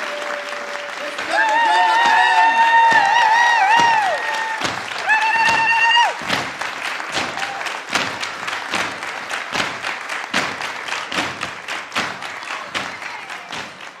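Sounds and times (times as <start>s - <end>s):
group applause: 0.0s - 14.0s.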